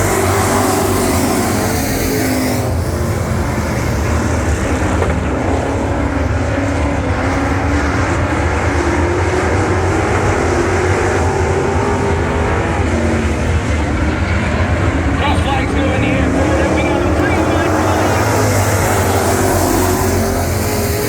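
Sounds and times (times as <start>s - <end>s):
race truck engines: 0.0s - 21.0s.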